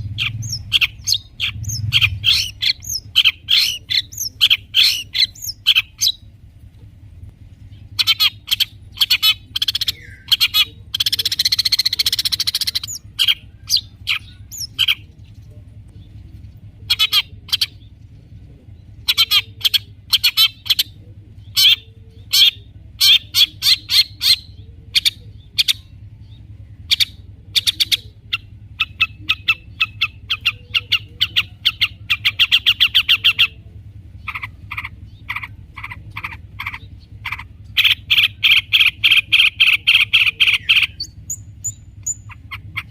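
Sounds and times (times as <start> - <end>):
harsh rasping bird call: 0.0 - 6.3, 7.7 - 15.1, 16.8 - 18.0, 18.9 - 26.1, 26.8 - 42.9
faint low hum: 0.0 - 42.9
shrike singing: 0.0 - 42.9.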